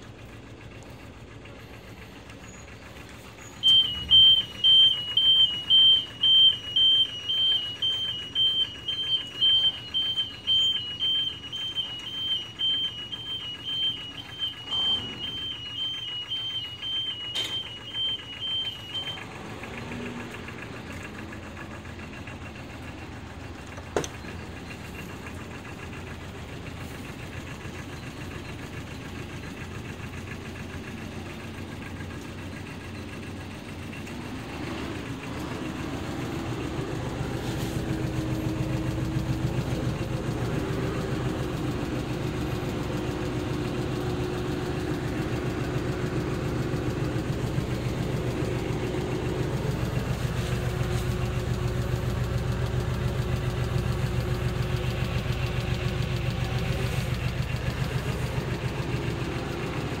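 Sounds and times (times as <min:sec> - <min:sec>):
small diesel engine idling: 0:00.0 - 1:00.0.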